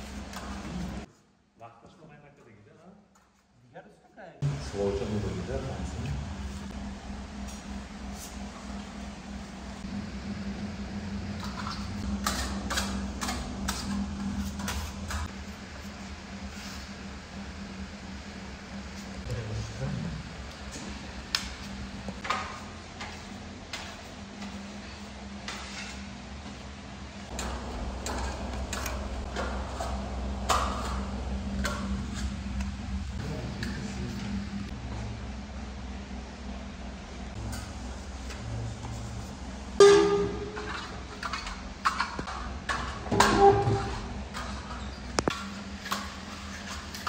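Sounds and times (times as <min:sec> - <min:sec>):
low hum: 0:04.4 - 0:47.0.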